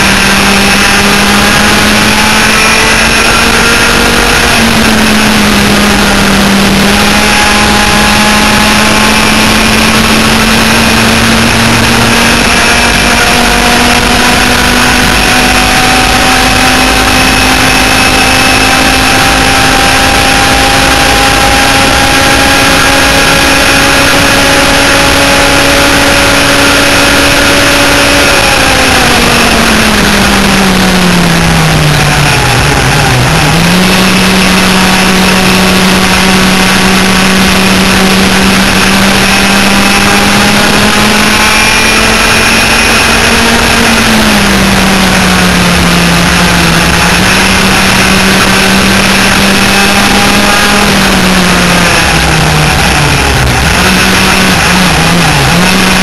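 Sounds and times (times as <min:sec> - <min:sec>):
rush of noise: 0:00.0 - 0:56.0
two-stroke kart engines racing: 0:00.0 - 0:56.0.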